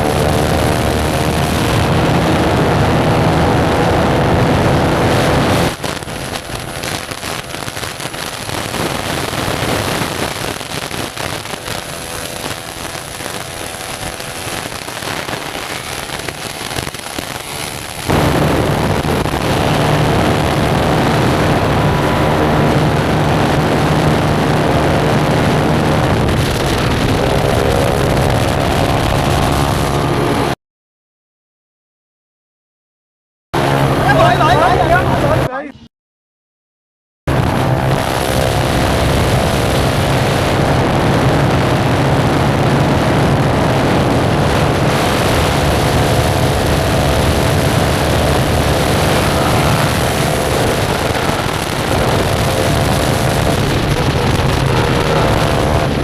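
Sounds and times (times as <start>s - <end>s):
loud motorcycle engine: 0.0s - 30.6s, 33.6s - 35.5s, 37.3s - 56.0s
noisy rushing sound: 0.0s - 30.6s, 37.3s - 56.0s.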